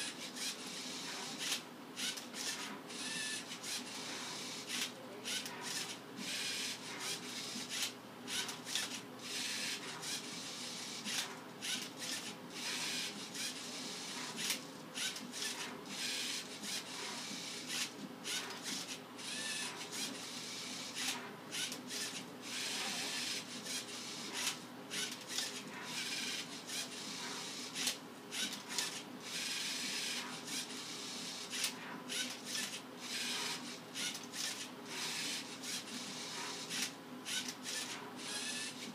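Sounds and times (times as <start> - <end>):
robot motors whirring: 0.0 - 38.9.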